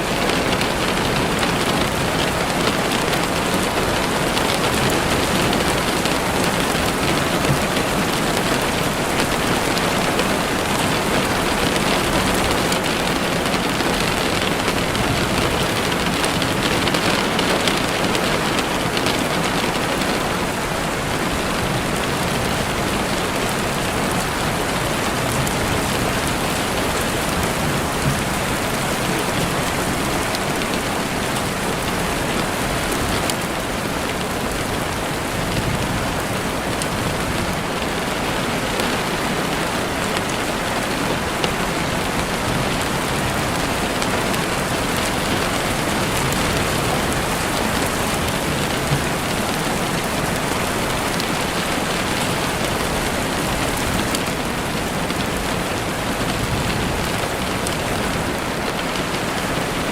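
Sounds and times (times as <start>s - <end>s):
rain falling through trees: 0.0s - 59.9s.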